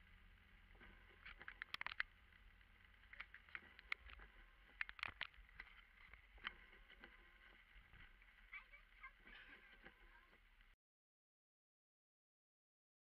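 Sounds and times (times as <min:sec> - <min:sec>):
light ticks and taps of rain: 0:00.0 - 0:10.8.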